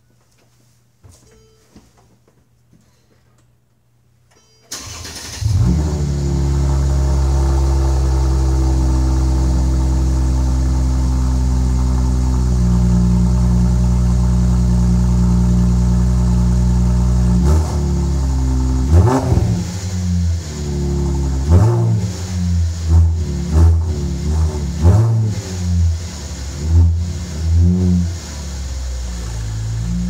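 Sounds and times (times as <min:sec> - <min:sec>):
car engine loud idle: 0:05.4 - 0:30.0.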